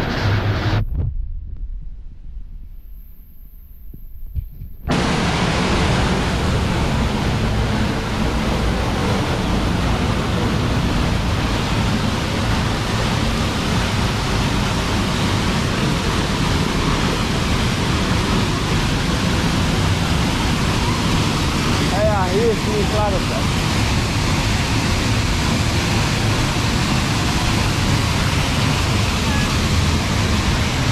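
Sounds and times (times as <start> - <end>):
waterfall crashing into pool: 4.9 - 30.9.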